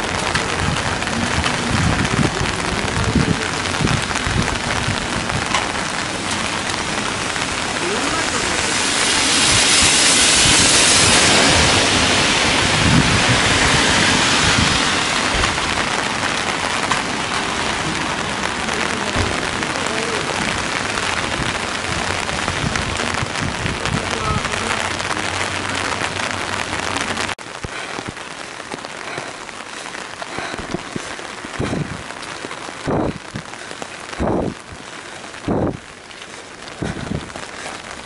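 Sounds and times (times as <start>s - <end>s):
heavy rain on a road: 0.0s - 38.0s
tyres hissing on a wet road: 0.0s - 38.0s.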